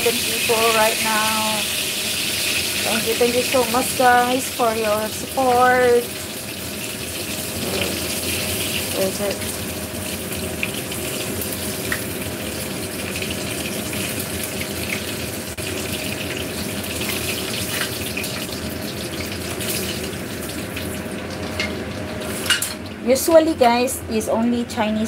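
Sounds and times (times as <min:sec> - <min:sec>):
food sizzling in oil: 0:00.0 - 0:23.0
oil crackling and popping: 0:00.0 - 0:23.0.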